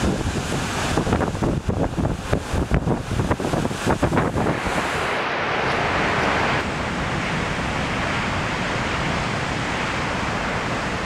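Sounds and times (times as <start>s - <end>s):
surf breaking roar: 0.0s - 11.0s.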